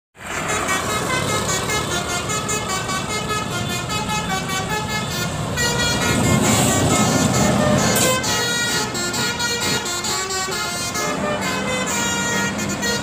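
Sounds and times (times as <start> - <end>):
bus horn melody toots: 0.2 - 13.0.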